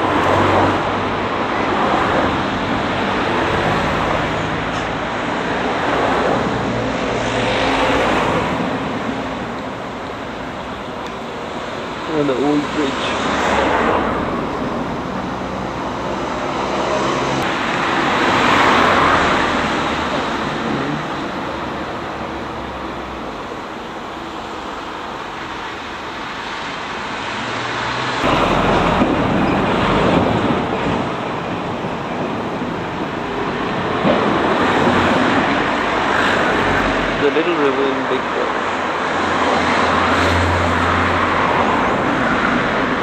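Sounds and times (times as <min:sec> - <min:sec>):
background traffic noise: 0:00.0 - 0:43.0
vehicles passing close by: 0:00.0 - 0:43.0.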